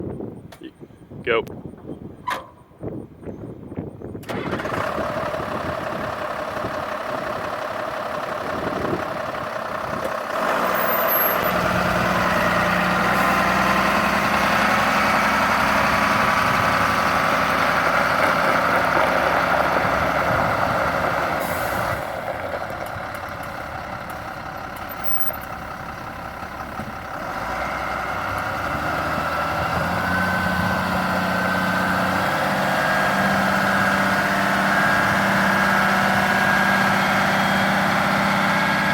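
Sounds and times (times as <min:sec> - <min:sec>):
diesel truck engine running: 0:04.2 - 0:38.9.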